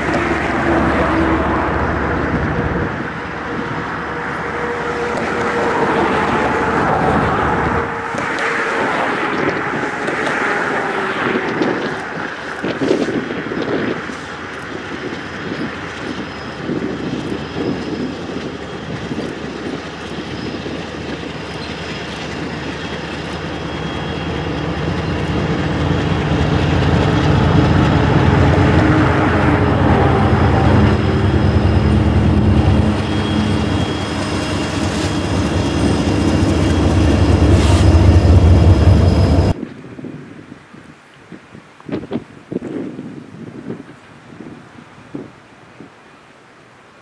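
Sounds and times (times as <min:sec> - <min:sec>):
train engine rumble: 0:00.0 - 0:39.9.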